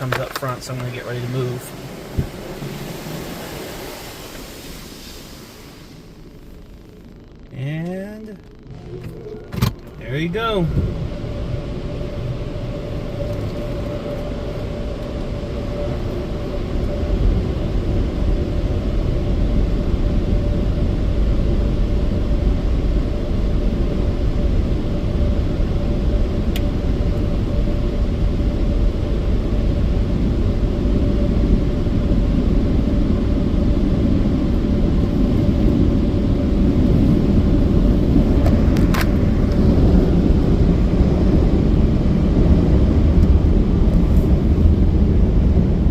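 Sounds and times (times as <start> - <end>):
car engine rumbling: 0.0 - 45.9.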